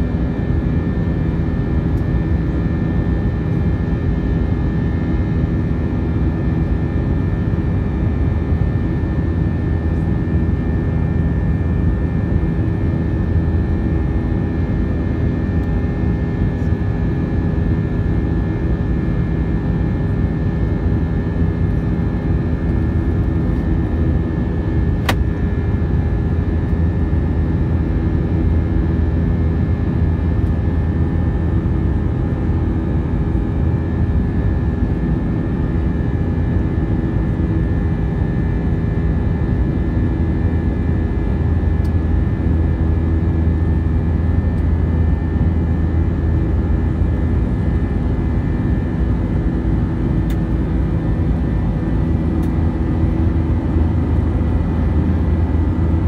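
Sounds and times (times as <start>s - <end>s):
jet cabin engine drone: 0.0s - 56.0s.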